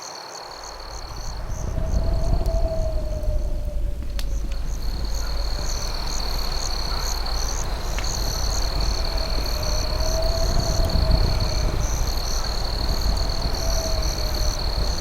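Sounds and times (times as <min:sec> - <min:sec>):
cricket trill: 0:00.0 - 0:15.0
insect chirping in pulses: 0:00.0 - 0:15.0
low rumble: 0:00.6 - 0:15.0.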